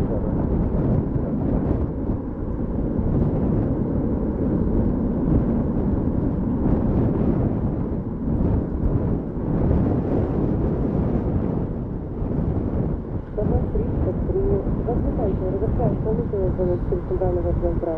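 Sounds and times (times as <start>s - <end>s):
jet engines deep rumble: 0.0s - 17.9s.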